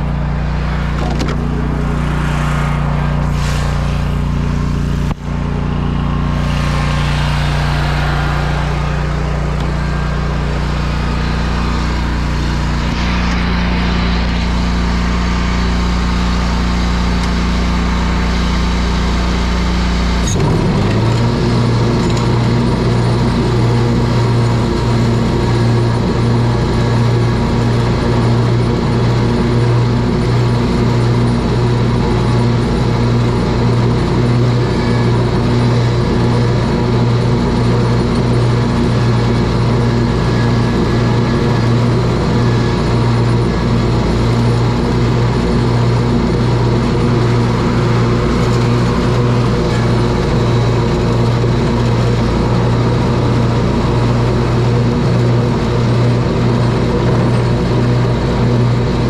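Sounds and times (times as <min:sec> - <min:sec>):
lawn mower running: 0:00.0 - 0:59.0.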